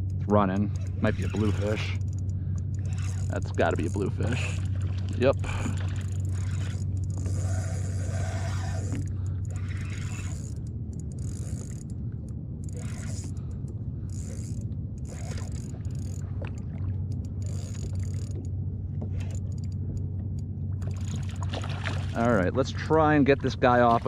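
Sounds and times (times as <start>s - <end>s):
fishing reel whirring and clicking: 0.0s - 22.3s
steady low hum: 0.0s - 24.0s.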